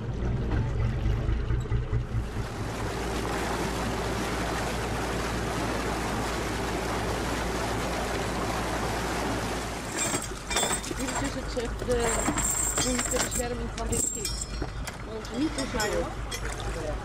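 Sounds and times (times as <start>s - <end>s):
low rumble: 0.0s - 15.2s
water rushing: 0.0s - 17.0s
wind on open water: 0.0s - 17.0s.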